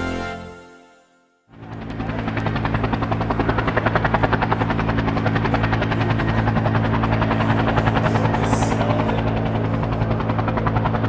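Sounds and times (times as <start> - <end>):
propeller aircraft engine droning: 1.5 - 11.0.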